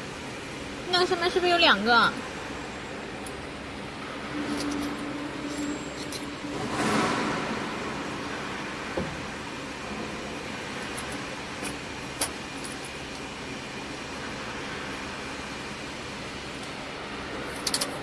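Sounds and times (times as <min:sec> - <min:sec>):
workshop machinery: 0:02.1 - 0:18.0.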